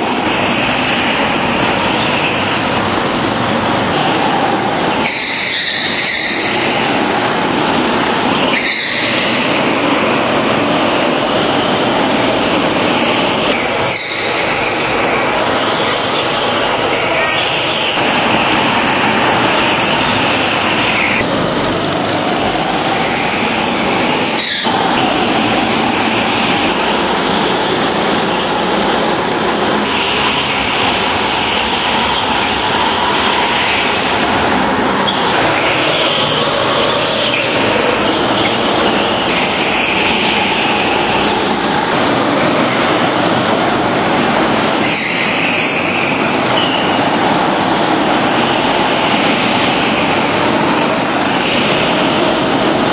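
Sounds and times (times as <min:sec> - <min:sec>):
go-kart engines droning: 0:00.0 - 0:52.9.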